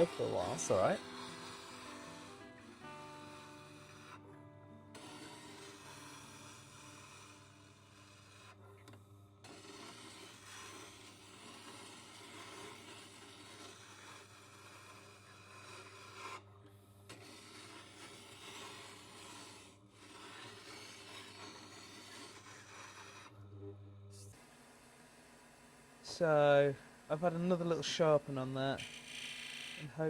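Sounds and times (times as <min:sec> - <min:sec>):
tool rasping on bench grinder: 0:00.0 - 0:23.5, 0:24.3 - 0:30.0
grinder motor hum: 0:00.0 - 0:30.0.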